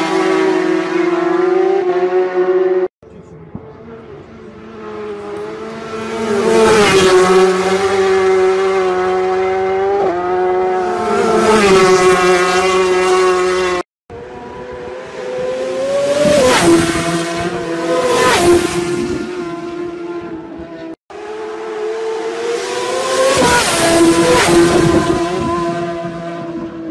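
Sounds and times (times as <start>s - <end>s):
racing motorcycles passing: 0.0s - 26.9s.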